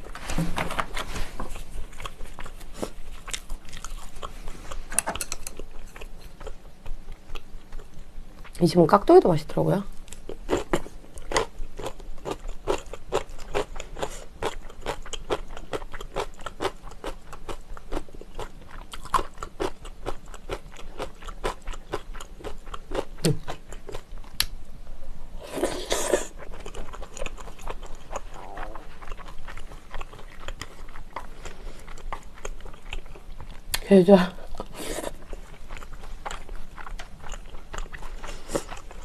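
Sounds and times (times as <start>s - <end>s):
crisp crunching and chewing: 0.8s - 8.5s, 10.0s - 24.5s, 26.2s - 33.8s, 34.4s - 39.0s
soft wet chewing: 0.8s - 8.6s, 9.9s - 24.6s, 25.6s - 39.0s.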